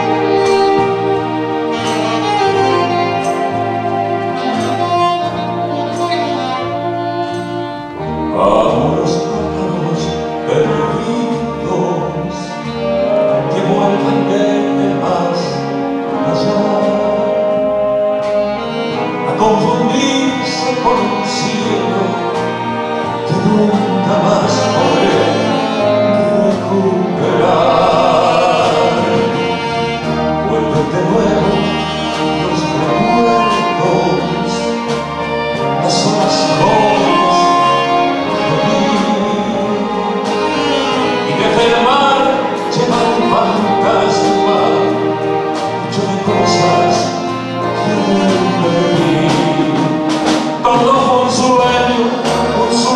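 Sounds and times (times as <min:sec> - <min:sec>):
live orchestra playing slow song: 0:00.0 - 0:52.9
man singing: 0:07.3 - 0:17.8, 0:19.0 - 0:52.9.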